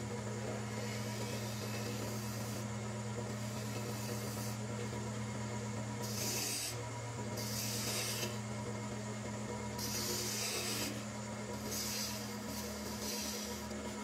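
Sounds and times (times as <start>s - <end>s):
turning tool cutting wood hissing: 0.0s - 5.0s, 5.8s - 8.6s, 9.5s - 14.0s
wood lathe humming: 0.0s - 14.0s.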